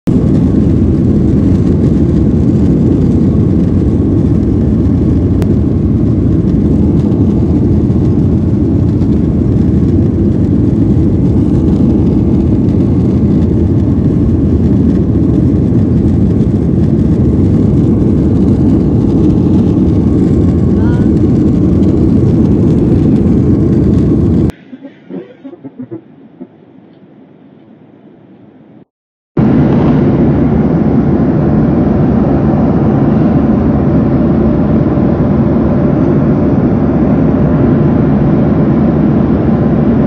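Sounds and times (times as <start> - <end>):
rushing air: 0.1 - 25.4, 29.4 - 40.0
jet engines rumbling: 0.1 - 40.0.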